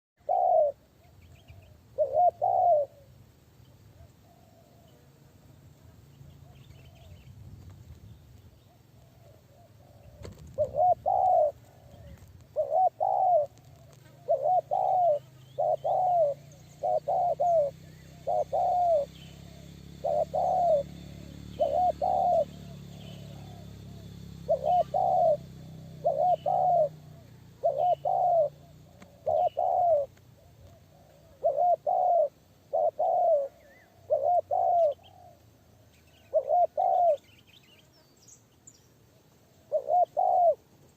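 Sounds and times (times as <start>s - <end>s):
dove cooing: 0.2s - 3.2s, 3.9s - 5.1s, 8.6s - 37.6s, 39.1s - 40.9s.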